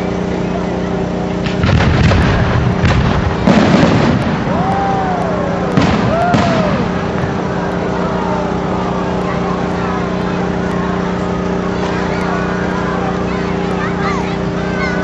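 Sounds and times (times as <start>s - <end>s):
fireworks bangs and crackles: 0.0s - 15.0s
steady low hum: 0.0s - 15.0s.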